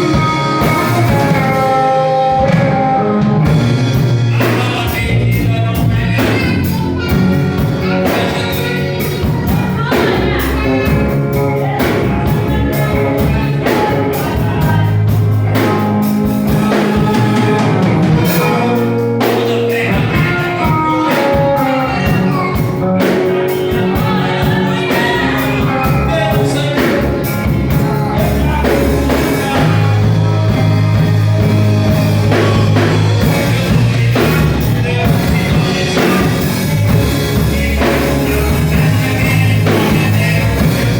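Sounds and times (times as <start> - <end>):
band with bass and drums: 0.0 - 40.9
worship singing: 0.0 - 40.9.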